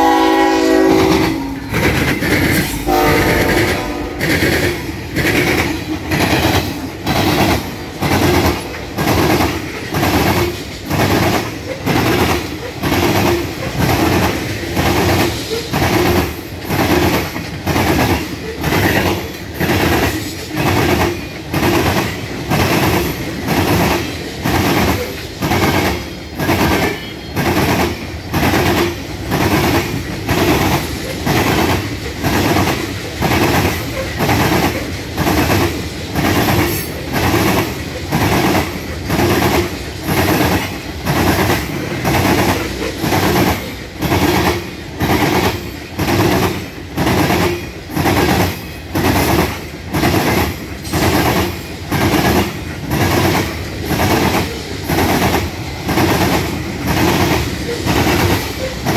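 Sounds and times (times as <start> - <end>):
train wheels clacking: 0.0 - 58.9.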